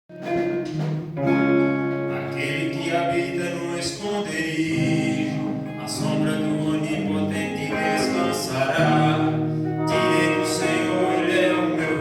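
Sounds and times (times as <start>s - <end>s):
acoustic guitar strumming: 0.1s - 12.0s
person singing: 2.0s - 12.0s.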